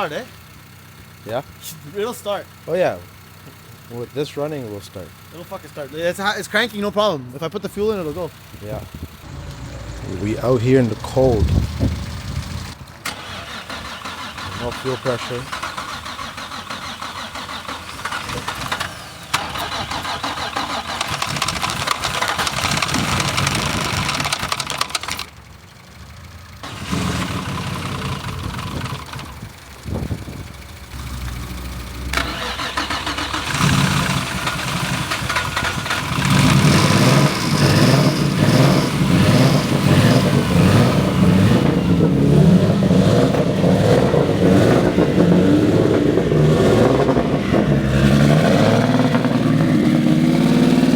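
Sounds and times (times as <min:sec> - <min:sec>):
car engine cranking and running: 0:00.0 - 0:50.9.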